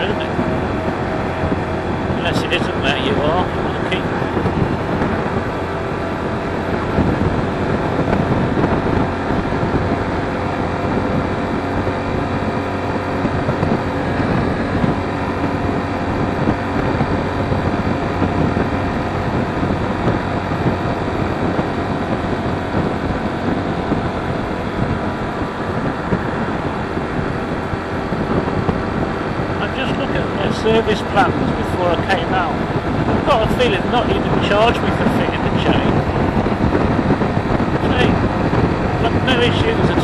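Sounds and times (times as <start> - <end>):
motorcycle engine running: 0.0 - 40.0
wind rushing over microphone: 0.0 - 40.0.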